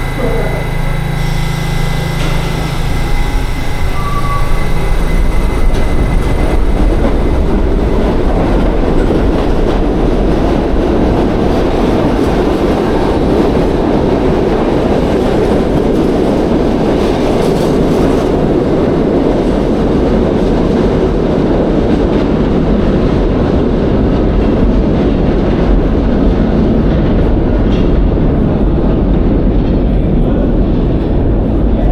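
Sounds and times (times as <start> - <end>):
subway train rumbling: 0.0 - 31.9.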